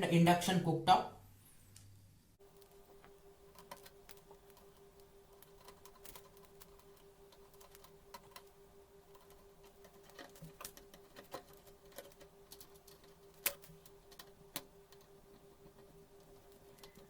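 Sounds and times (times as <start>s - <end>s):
faint steady hum: 0.0s - 17.0s
small parts clicking and tapping: 2.4s - 17.0s.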